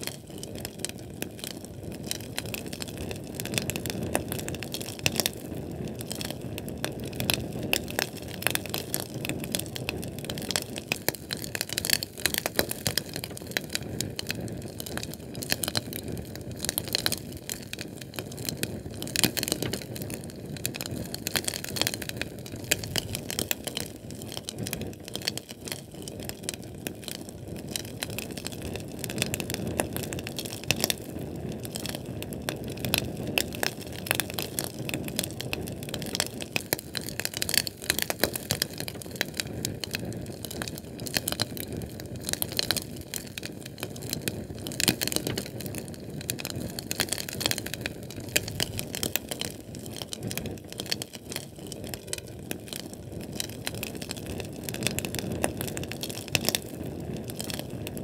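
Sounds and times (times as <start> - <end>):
fire crackling and popping: 0.0 - 58.0
low rush of flame: 0.0 - 58.0.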